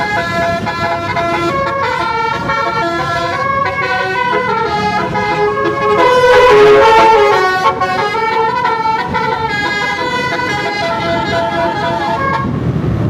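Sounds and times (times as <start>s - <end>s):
bus air horn melody: 0.0s - 12.6s.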